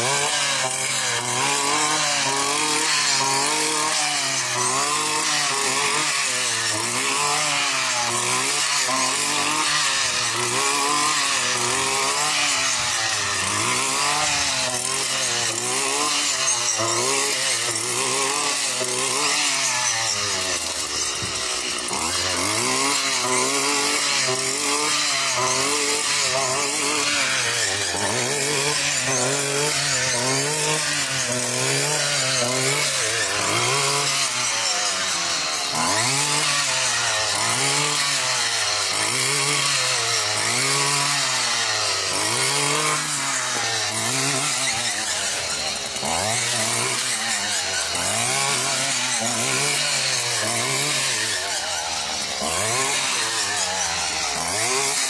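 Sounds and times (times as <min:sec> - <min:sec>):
brush cutter engine cutting grass: 0:00.0 - 0:55.0.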